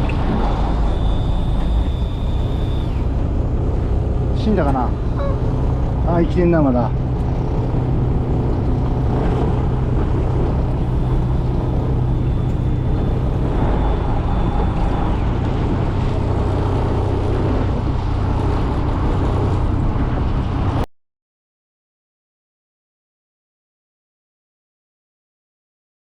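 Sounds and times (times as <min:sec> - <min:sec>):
boat engine droning: 0:00.0 - 0:20.9.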